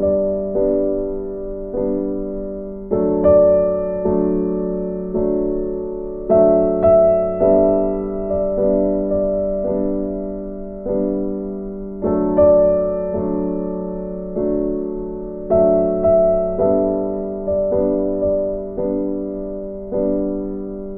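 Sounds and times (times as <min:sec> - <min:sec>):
slow piano chords: 0:00.0 - 0:20.9.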